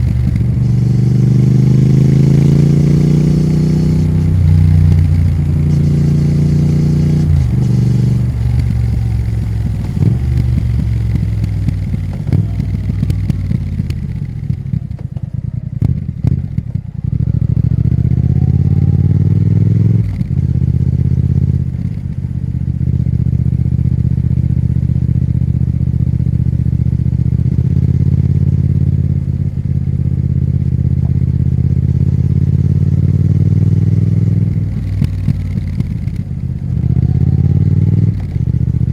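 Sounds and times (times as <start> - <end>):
exhaust crackle: 0.0 - 38.9
motorcycle engine and exhaust: 0.0 - 38.9.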